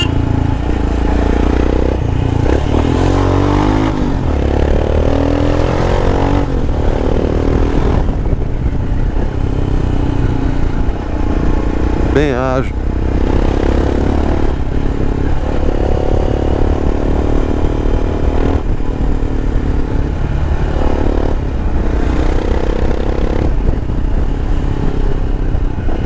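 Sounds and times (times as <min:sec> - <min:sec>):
motorcycle engine rumbling: 0:00.0 - 0:26.0.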